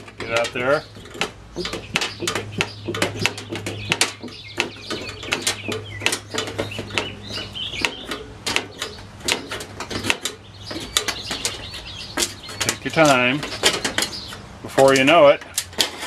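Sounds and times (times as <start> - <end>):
sheet metal crackling and popping: 0.0 - 16.0.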